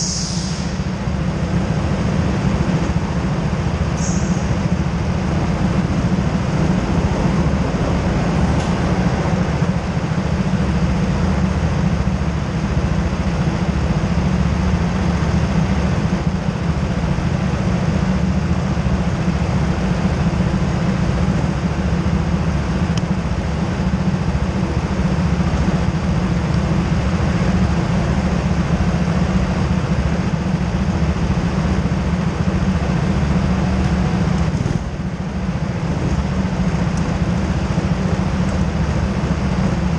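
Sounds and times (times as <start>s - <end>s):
go-kart engines idling: 0.0s - 39.9s.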